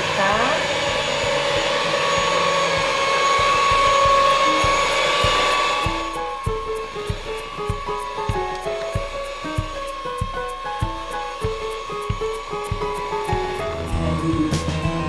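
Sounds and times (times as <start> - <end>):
background music with a beat: 0.0 - 15.0
electric hand mixer whining: 0.0 - 15.0.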